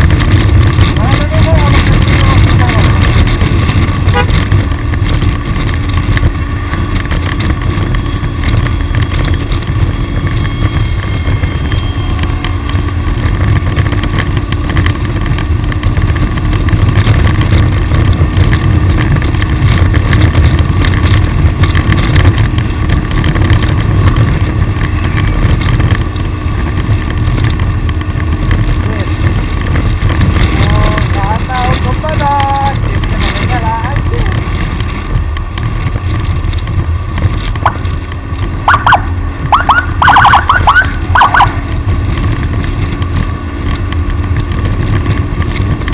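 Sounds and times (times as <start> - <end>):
gusts and clatters: 0.0 - 45.9
vehicle engine and road rumble: 0.0 - 45.9.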